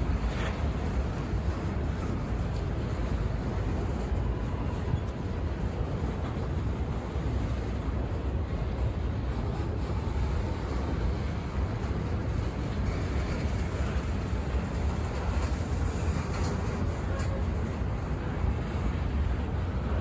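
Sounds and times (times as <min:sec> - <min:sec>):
freight train rumbling on rails: 0:00.0 - 0:20.0.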